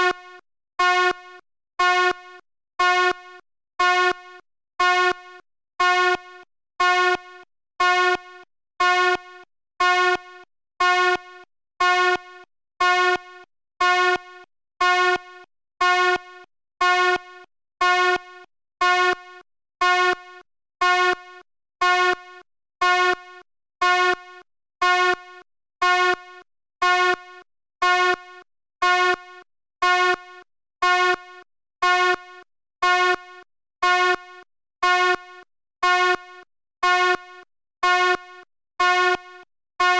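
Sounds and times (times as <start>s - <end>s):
fire alarm horn buzzing: 0.0s - 39.9s.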